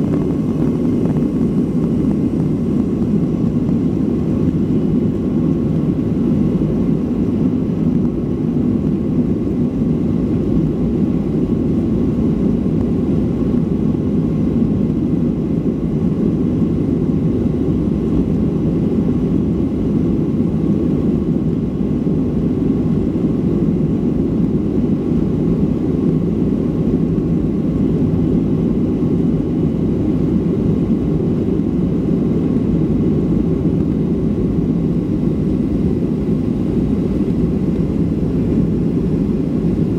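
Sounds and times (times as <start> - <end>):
airplane cabin roar: 0.0 - 39.9
faint steady whine: 0.0 - 39.9.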